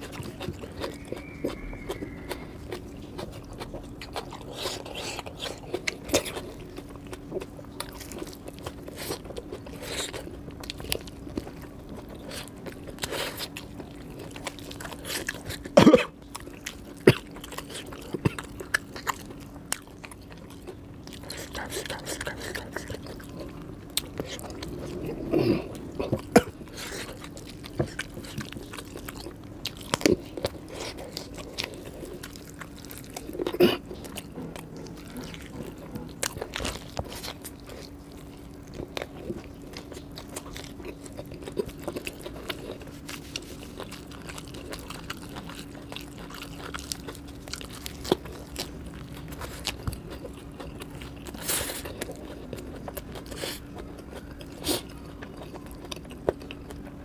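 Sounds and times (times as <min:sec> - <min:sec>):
chewing and crunching bites: 0:00.0 - 0:57.0
faint steady hum: 0:00.0 - 0:57.0.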